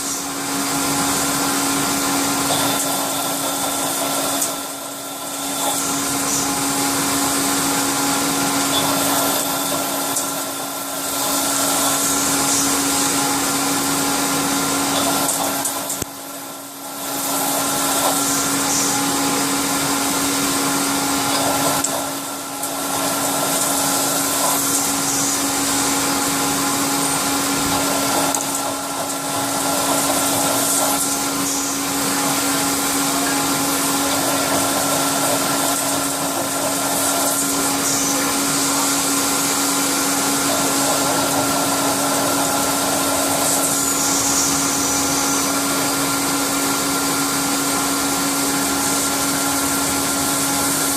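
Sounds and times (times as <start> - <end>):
milling machine running: 0.0 - 50.9.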